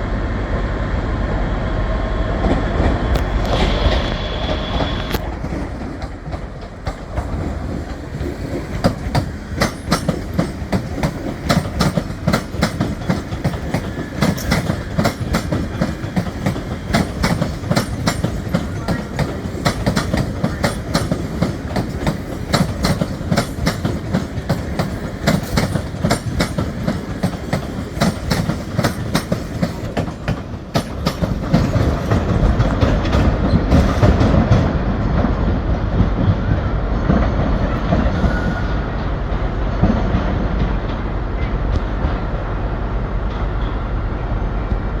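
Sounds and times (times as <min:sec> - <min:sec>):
low train rumble: 0:00.0 - 0:45.0
train wheels clicking over rail joints: 0:02.4 - 0:42.3.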